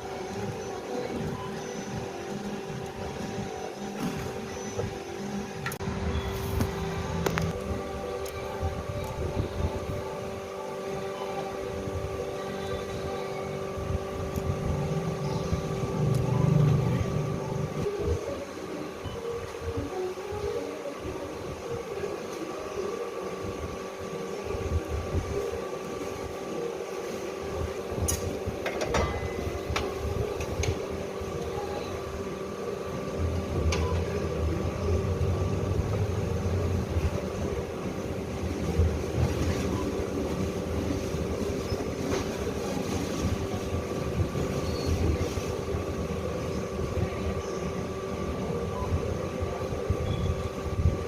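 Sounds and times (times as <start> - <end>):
strapping machine humming: 0.0 - 51.0.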